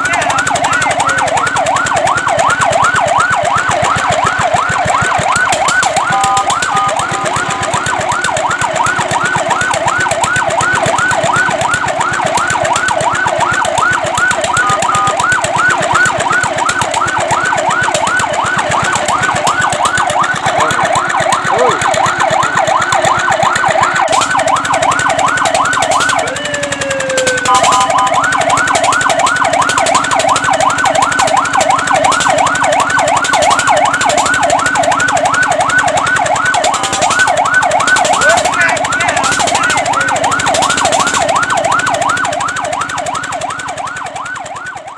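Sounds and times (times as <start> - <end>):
fire truck siren yelp: 0.0 - 44.9.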